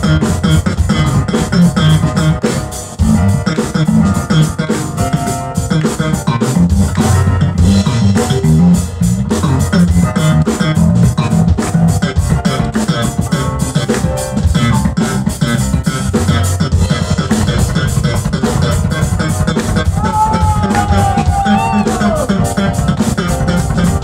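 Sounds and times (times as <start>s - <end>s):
drum kit beat: 0.0s - 24.0s
electric bass: 0.0s - 24.0s
keyboard: 0.0s - 24.0s.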